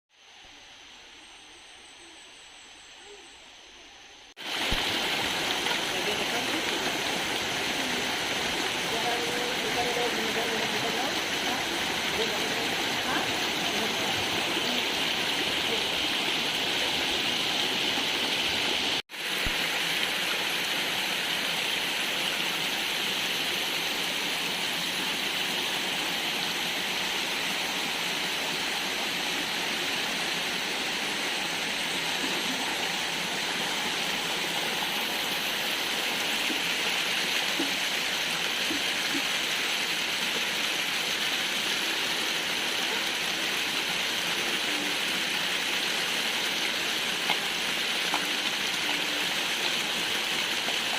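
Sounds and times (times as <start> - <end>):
stream water rushing: 4.4 - 50.9.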